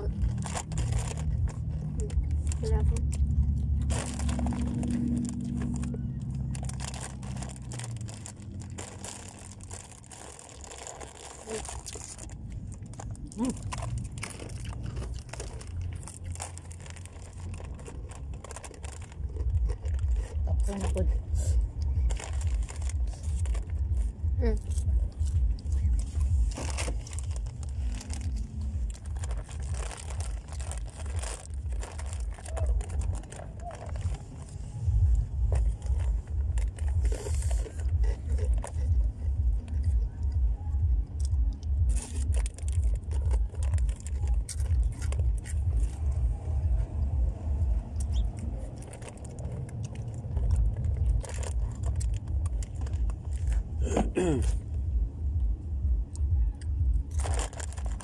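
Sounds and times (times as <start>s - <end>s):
plastic chip bag crinkling: 0.0s - 21.2s, 21.8s - 23.8s, 24.6s - 34.5s, 35.4s - 39.0s, 41.8s - 46.2s, 48.0s - 54.5s, 56.6s - 58.0s
low uneven rumble: 0.0s - 58.0s.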